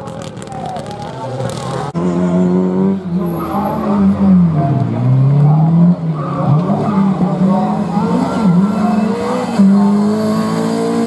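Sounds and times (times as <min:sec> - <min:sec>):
rally car accelerating hard: 0:01.4 - 0:11.0
rally car passing: 0:01.8 - 0:11.0.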